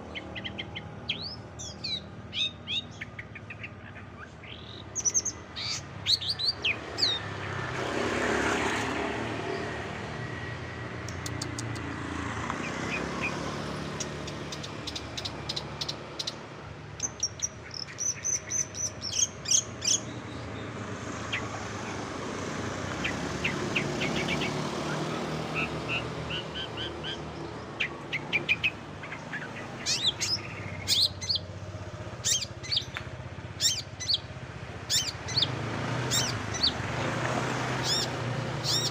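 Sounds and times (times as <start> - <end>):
bird singing high chirps and trills: 0.0 - 7.8, 12.6 - 22.1, 22.8 - 37.0, 37.6 - 38.9.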